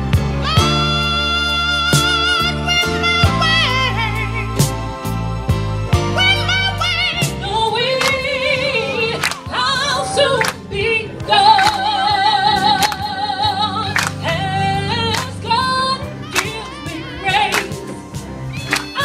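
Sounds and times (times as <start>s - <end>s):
gospel singing: 0.4s - 19.0s.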